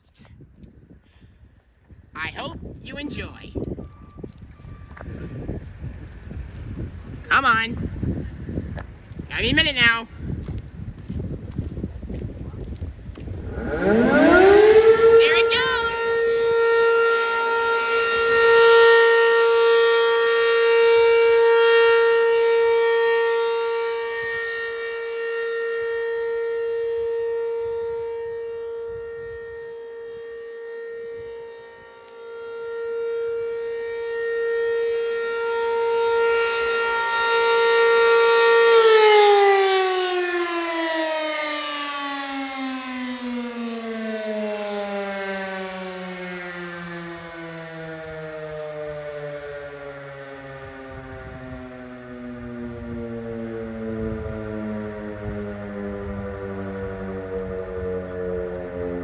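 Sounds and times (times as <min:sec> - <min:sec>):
tornado siren wailing: 0:01.7 - 0:59.0.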